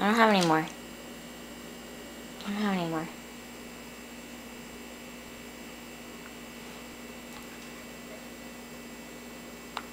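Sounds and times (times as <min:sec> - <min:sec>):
low steady hum: 0:00.0 - 0:09.9.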